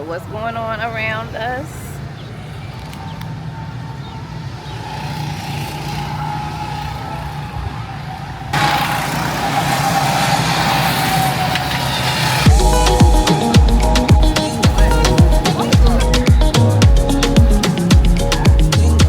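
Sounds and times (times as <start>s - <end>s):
go-kart engines droning: 2.1s - 19.0s
loud rush of noise: 3.4s - 19.0s.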